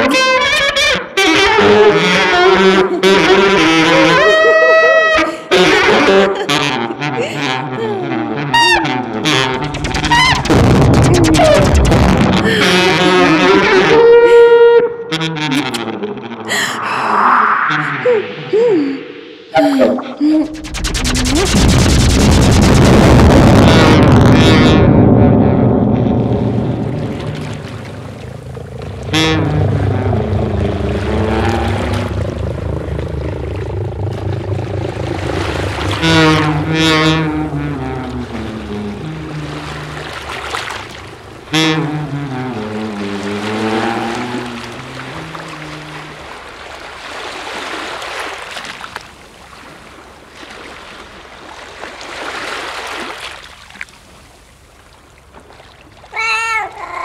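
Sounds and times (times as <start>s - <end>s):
synthesized propeller engine drone: 0.0s - 47.0s.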